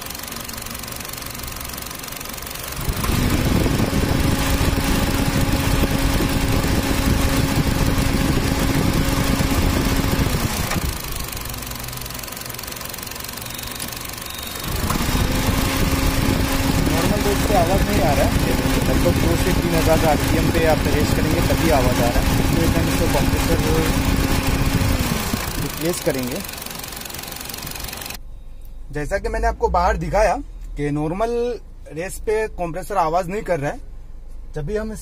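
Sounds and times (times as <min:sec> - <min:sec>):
car engine running: 0:00.0 - 0:28.2
faulty ac compressor noise: 0:00.0 - 0:28.2.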